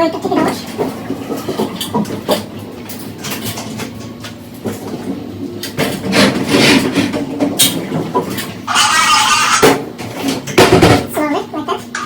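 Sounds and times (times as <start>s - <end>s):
washing machine cabinet rattling: 0.0s - 12.0s.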